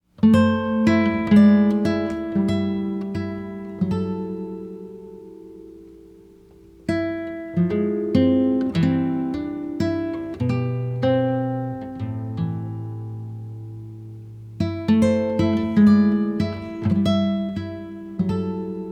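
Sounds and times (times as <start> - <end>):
acoustic guitar music: 0.0 - 18.9.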